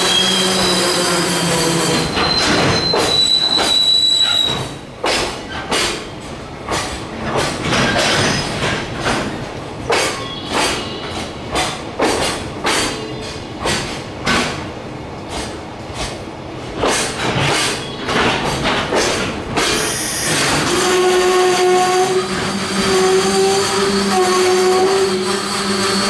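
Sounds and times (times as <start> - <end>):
high squeal from train wheels: 0.0 - 6.9, 7.9 - 8.8, 10.0 - 14.0, 17.0 - 26.0
freight train rolling past: 0.0 - 26.0
wheels clacking over rail joints: 1.8 - 23.6.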